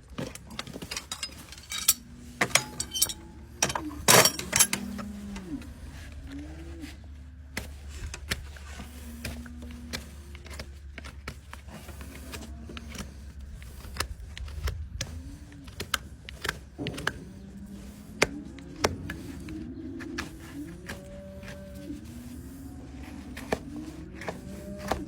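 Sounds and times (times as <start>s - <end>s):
tools scraping hoof: 0.1s - 25.0s
hand tools clicking on hoof: 0.2s - 6.4s, 7.5s - 25.0s.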